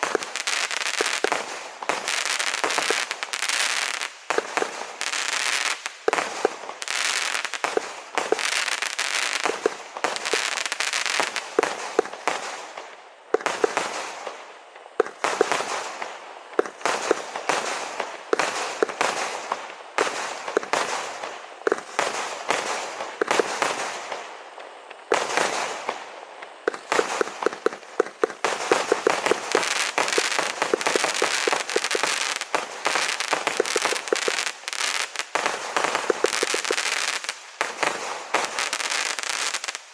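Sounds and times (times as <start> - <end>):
fireworks shots and crackling: 0.0 - 39.9.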